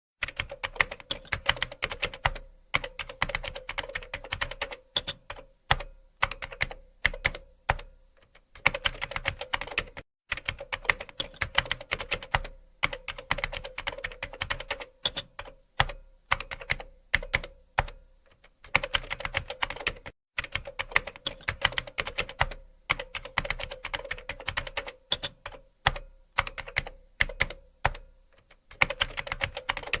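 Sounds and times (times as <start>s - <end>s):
computer keyboard typing: 0.2s - 30.0s.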